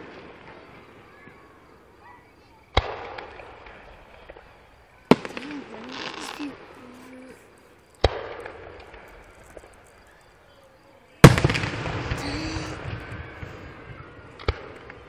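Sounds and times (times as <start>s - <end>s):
fireworks bursting with bangs: 0.0s - 10.4s, 11.2s - 15.0s.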